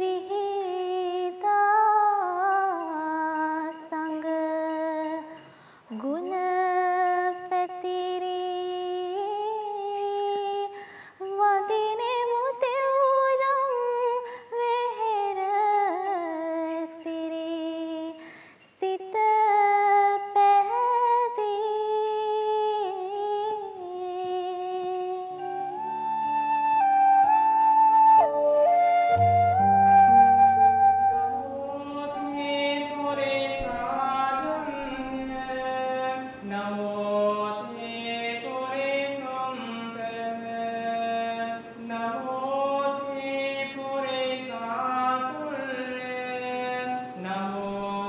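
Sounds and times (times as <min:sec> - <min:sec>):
girl singing unaccompanied: 0:00.0 - 0:26.2, 0:31.1 - 0:48.0.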